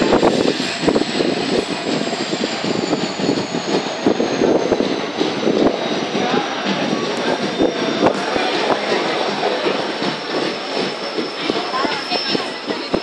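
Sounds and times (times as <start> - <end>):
train wheels rumbling with knocks: 0.0 - 13.0.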